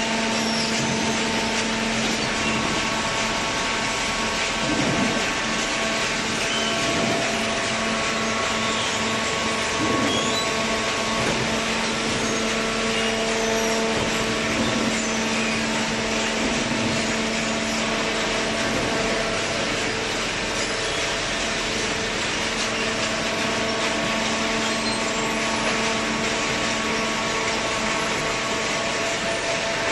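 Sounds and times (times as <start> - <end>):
baler machine humming: 0.0 - 29.9.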